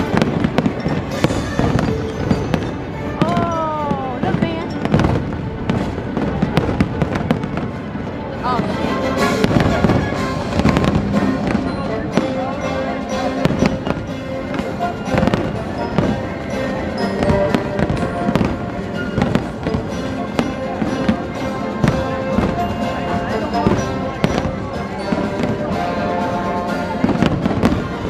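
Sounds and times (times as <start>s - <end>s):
fireworks bursting and crackling: 0.0s - 28.0s
music playing: 0.0s - 28.0s.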